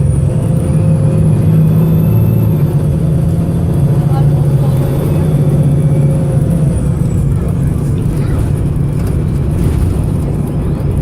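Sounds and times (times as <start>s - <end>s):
diesel bus engine rumbling: 0.0s - 11.0s
faint engine whine: 0.0s - 11.0s.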